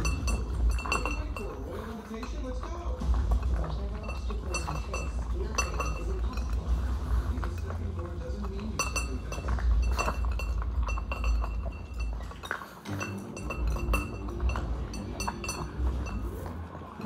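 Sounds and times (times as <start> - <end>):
clinks against ceramic bowl: 0.0 - 6.7, 7.4 - 16.6
dog eating noise: 0.0 - 17.0.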